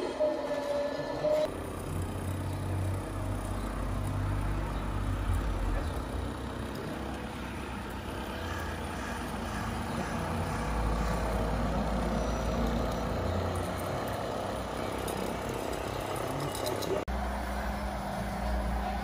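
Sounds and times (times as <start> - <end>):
model vehicle motor rumbling: 1.4 - 19.0.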